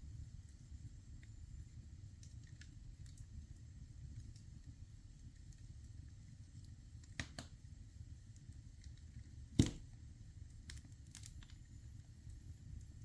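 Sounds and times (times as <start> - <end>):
low steady fire rumble: 0.0 - 13.0
wood fire crackling: 0.0 - 13.0.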